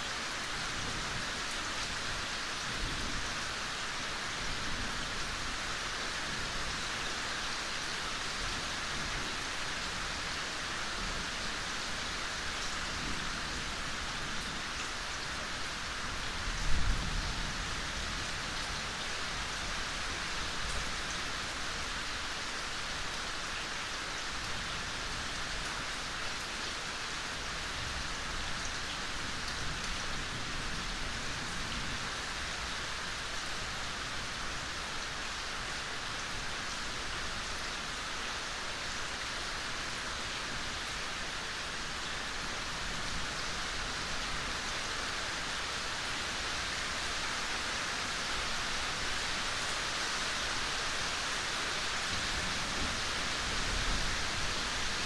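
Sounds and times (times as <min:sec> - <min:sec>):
soft rain patter: 0:00.0 - 0:55.0.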